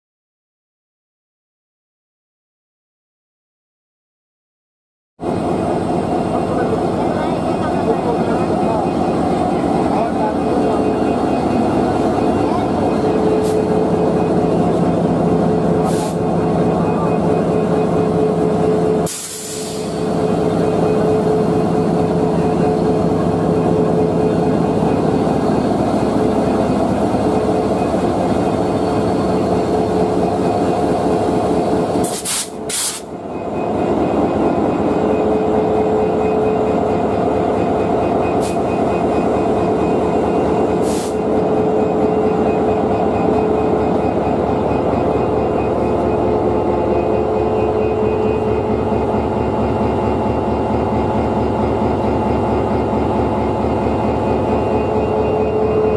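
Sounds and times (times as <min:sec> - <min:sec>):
locomotive running: 0:05.2 - 0:55.9.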